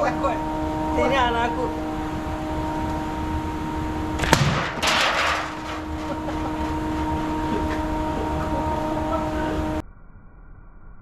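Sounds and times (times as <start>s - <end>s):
steady background hum: 0.0s - 9.8s.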